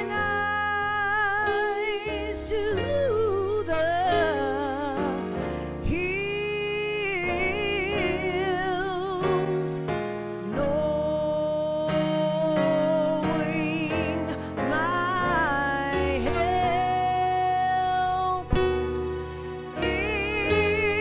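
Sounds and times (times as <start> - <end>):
gospel singing with wide vibrato: 0.0 - 21.0.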